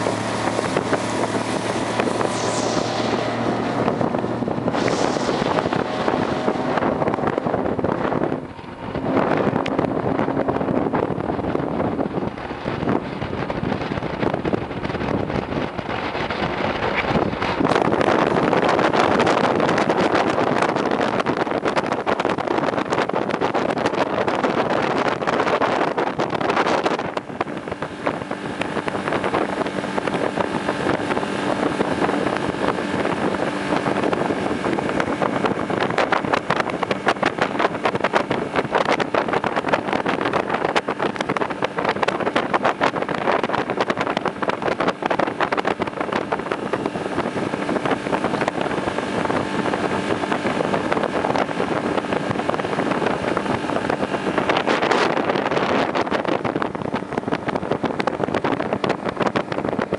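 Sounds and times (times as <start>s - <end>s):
motorboat engine running: 0.0s - 59.9s
rushing water: 0.0s - 59.9s
wind noise on microphone: 0.0s - 59.9s.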